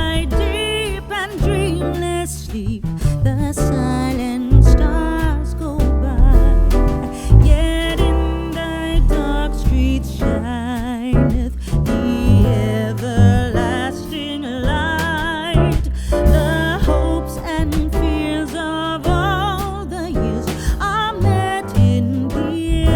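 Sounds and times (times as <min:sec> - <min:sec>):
song with singer guitar and bass: 0:00.0 - 0:22.9.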